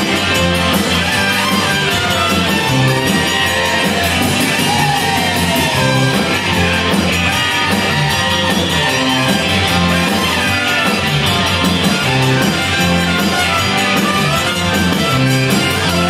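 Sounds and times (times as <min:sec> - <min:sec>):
rock band playing loudly: 0:00.0 - 0:16.0.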